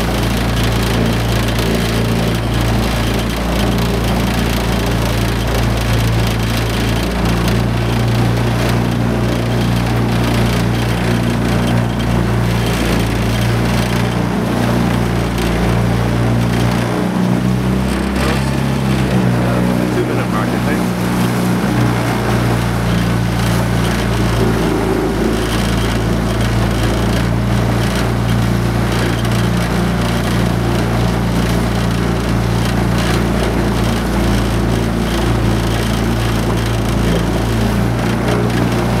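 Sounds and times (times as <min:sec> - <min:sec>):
outboard motor droning: 0:00.0 - 0:39.0.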